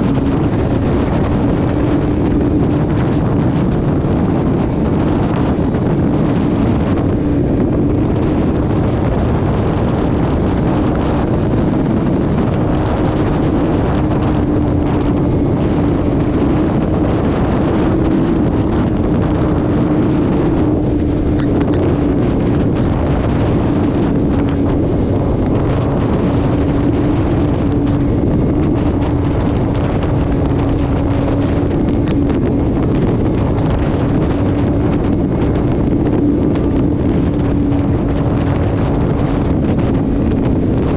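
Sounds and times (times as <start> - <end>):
road and wind noise: 0.0 - 40.9
vehicle engine drone: 0.0 - 40.9.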